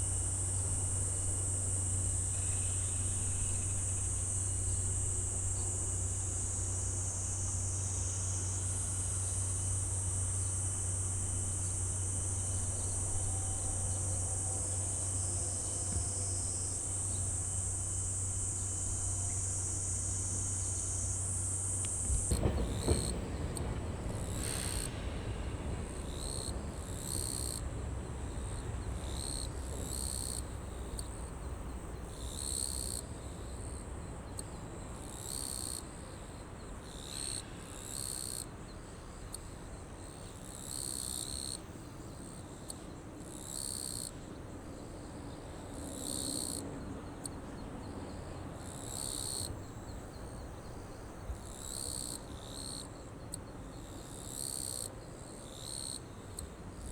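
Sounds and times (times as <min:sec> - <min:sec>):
insects calling in bursts: 0:00.0 - 0:56.9.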